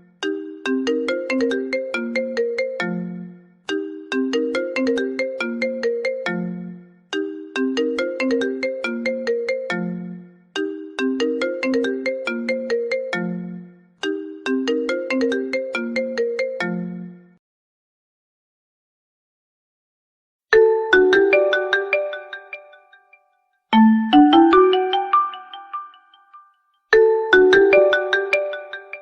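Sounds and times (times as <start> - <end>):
marimba-like phone ringtone: 0.0 - 17.2, 20.5 - 29.0.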